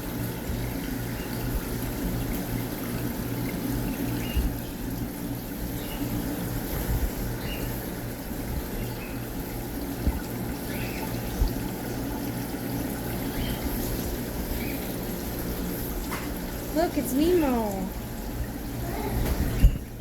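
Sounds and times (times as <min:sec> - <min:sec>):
low pump hum: 0:00.0 - 0:20.0
water trickling from aquarium filters: 0:00.0 - 0:20.0.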